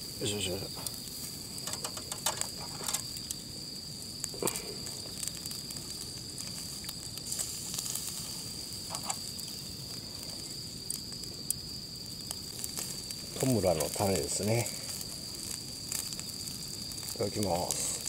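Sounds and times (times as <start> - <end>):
high insect trill: 0.0 - 18.0
meat sizzling on a grill: 0.0 - 18.0.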